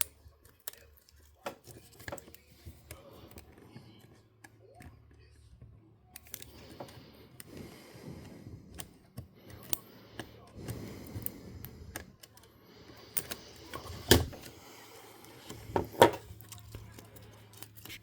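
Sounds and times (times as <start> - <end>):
plastic and metal parts clicking: 0.0 - 5.2, 6.1 - 18.0.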